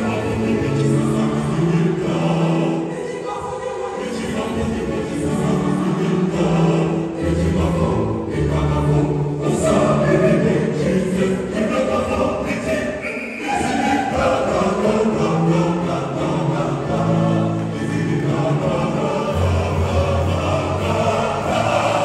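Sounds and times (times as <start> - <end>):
mixed choir singing: 0.0 - 22.0.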